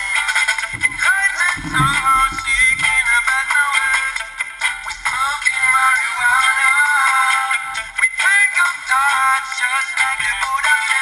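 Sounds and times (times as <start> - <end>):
song with sung vocals: 0.0 - 11.0.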